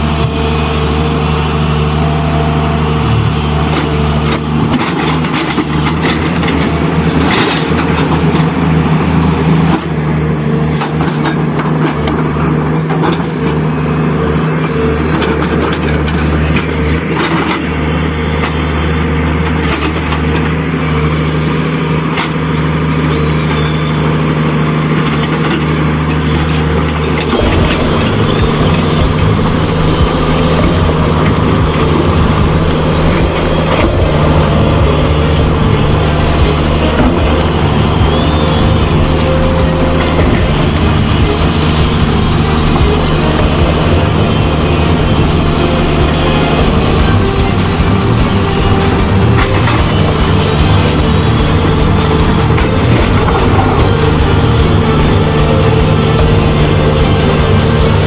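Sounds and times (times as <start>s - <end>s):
small electric motors whining: 0.0s - 58.0s.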